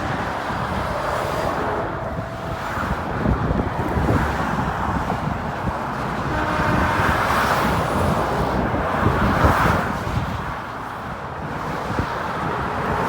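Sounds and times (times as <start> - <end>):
vehicle road noise: 0.0 - 13.0
wind buffeting microphone: 0.0 - 13.0.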